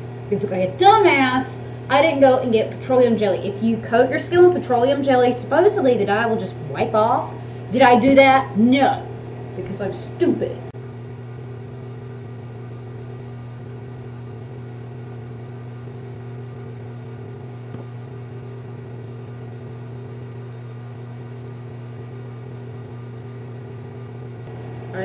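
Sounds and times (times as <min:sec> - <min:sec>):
electric fan humming: 0:00.0 - 0:25.0.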